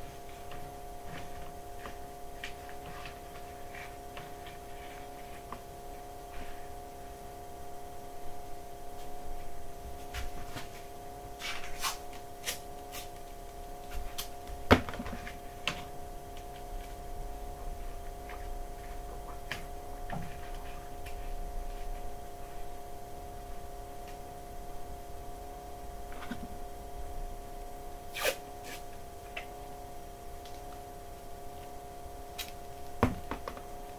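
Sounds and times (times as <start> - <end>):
steady hum: 0.0 - 33.9.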